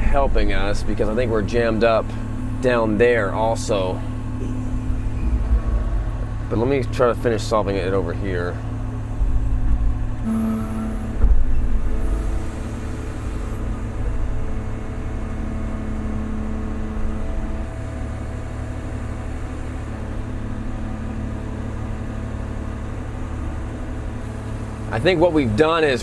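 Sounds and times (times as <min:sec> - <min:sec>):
excavator diesel engine rumbling: 0:00.0 - 0:26.0
steady machine whine: 0:00.0 - 0:26.0.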